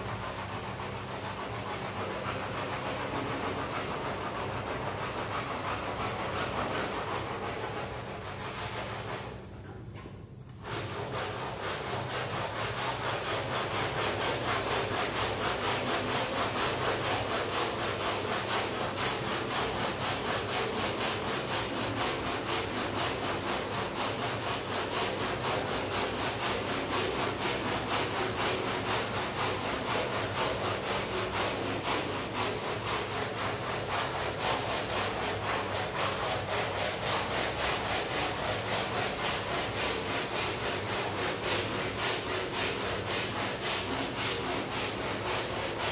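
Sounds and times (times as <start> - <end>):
stiff brush scrubbing rug: 0.0 - 9.4, 10.6 - 45.9
steady low hum: 0.0 - 45.9.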